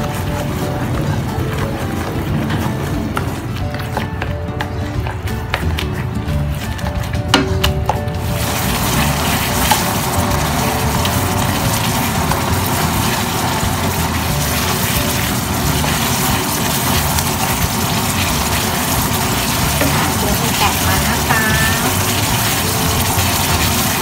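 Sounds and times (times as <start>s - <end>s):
curry sauce bubbling and sizzling: 0.0s - 24.0s
wooden spatula stirring: 0.0s - 24.0s.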